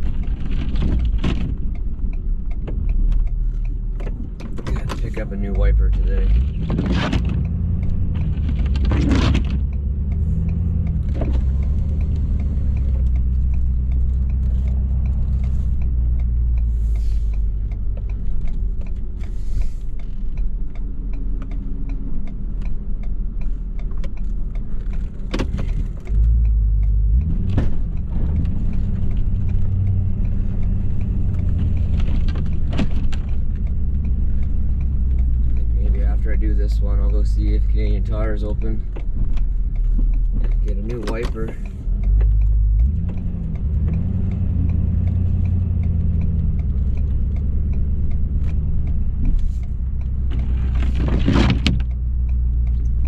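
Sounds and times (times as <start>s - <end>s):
diesel engine low rumble: 0.0s - 53.0s.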